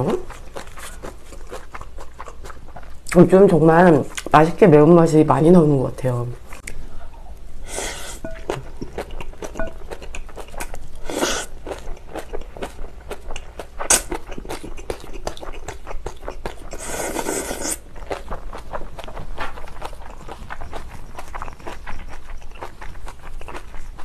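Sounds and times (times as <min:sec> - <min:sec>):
chewing and crunching: 0:00.0 - 0:04.3, 0:08.2 - 0:24.0.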